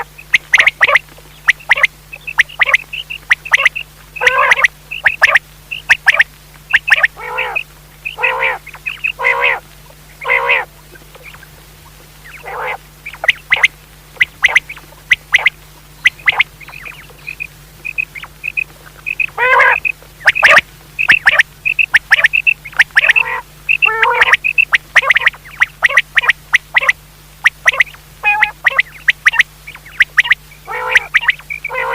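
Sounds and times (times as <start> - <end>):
quail calling: 0.0 - 11.6, 12.2 - 31.9
faint low hum: 0.0 - 31.9.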